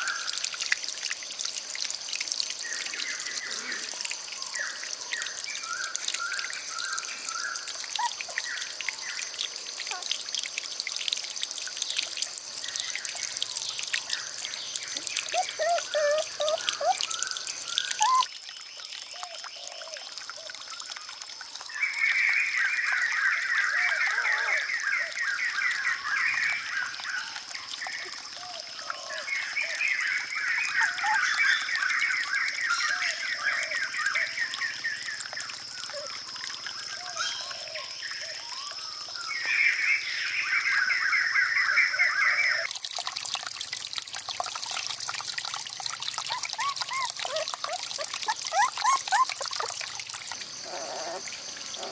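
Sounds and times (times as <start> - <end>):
water trickling and dripping: 0.0 - 51.9.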